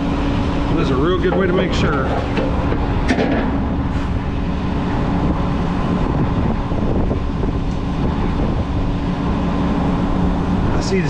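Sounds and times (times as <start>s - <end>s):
diesel truck engine humming: 0.0s - 11.0s.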